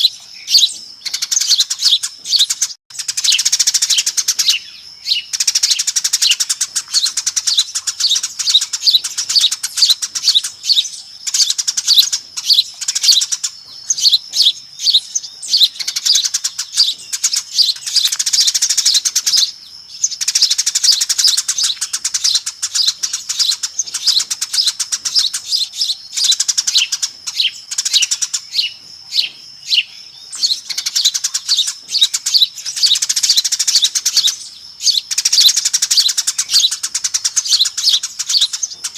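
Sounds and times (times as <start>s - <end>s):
sparrows chirping and chattering: 0.0s - 38.9s.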